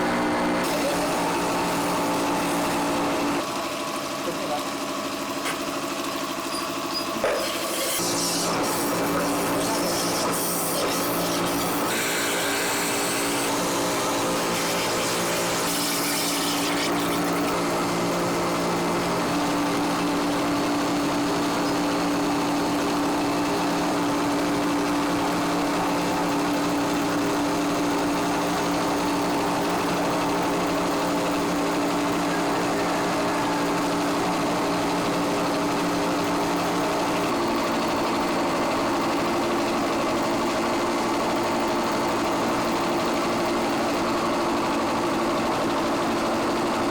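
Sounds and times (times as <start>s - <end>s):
machinery humming: 0.0s - 3.7s, 6.4s - 44.4s.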